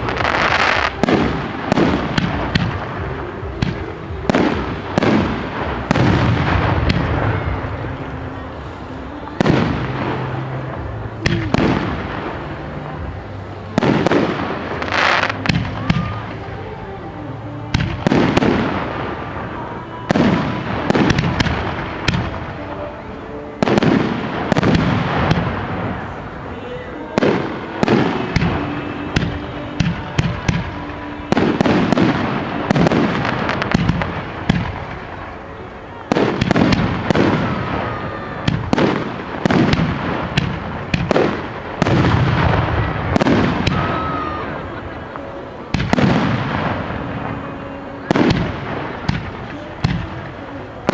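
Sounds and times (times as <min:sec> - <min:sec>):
faint music: 0:00.0 - 0:50.9
fireworks crackling: 0:00.0 - 0:50.9.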